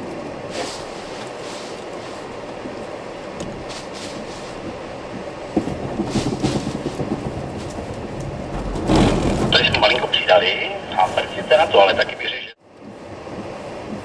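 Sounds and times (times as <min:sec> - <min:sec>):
rough rattling rumble: 0:00.8 - 0:12.1.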